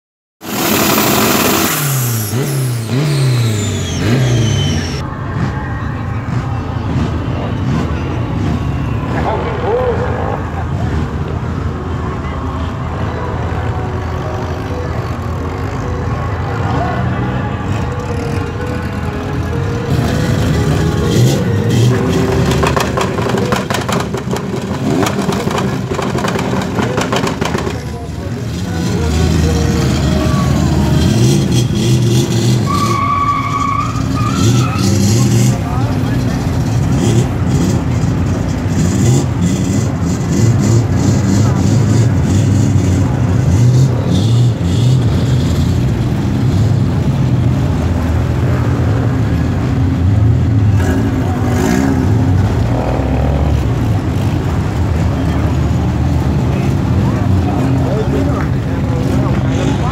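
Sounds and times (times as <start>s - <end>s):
racing engine accelerating: 0.4s - 5.6s, 15.7s - 59.9s.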